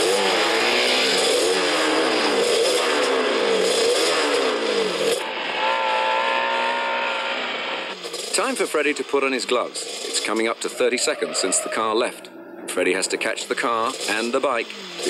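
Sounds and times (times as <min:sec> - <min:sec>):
engine accelerating through gears: 0:00.0 - 0:15.0.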